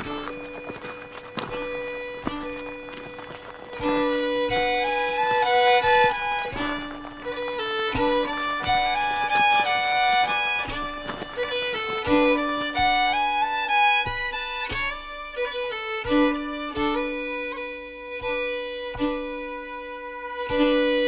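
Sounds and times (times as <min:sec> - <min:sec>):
background music with held notes: 0:00.0 - 0:21.0.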